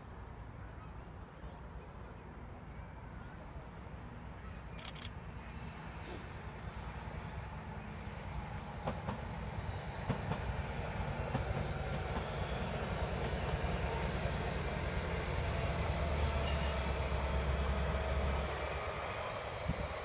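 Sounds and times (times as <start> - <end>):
train rumble passing: 0.0 - 20.0.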